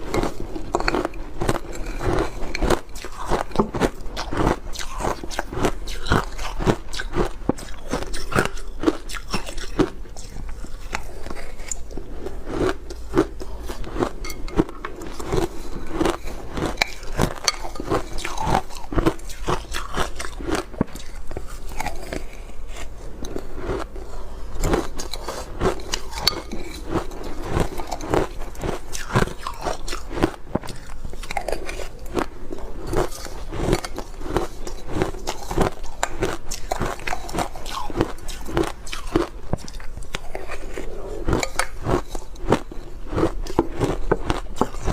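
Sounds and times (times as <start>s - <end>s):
ice crunching between teeth: 0.0s - 44.9s.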